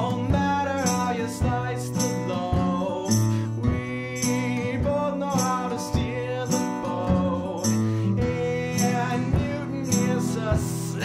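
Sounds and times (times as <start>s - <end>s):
man singing: 0.0s - 11.0s
strummed acoustic guitar: 0.0s - 11.0s.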